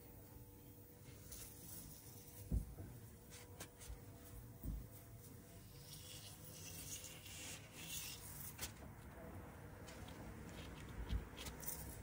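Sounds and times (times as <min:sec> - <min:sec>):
rustling of insulated pipes: 0:01.0 - 0:12.0.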